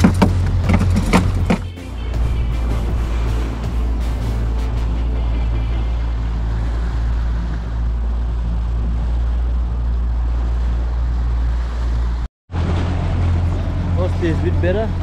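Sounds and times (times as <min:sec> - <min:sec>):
outboard motor running: 0:00.0 - 0:15.0
water washing along hull: 0:00.0 - 0:15.0.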